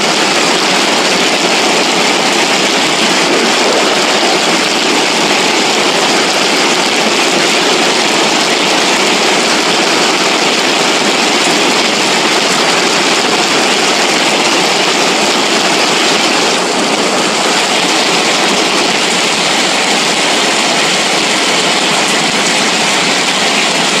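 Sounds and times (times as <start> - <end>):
rushing floodwater: 0.0 - 24.0.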